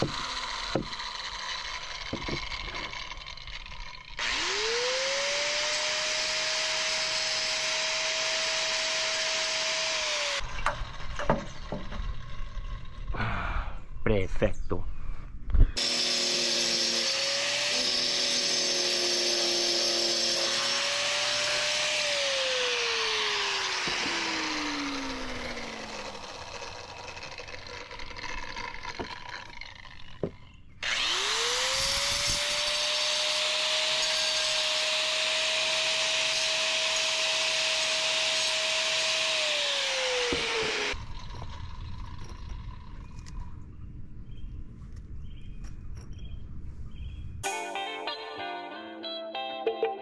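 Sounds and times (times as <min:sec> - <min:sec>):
angle grinder cutting paver: 0:00.0 - 0:13.2, 0:15.8 - 0:43.5
grinder motor winding down: 0:00.0 - 0:13.3, 0:15.8 - 0:43.4.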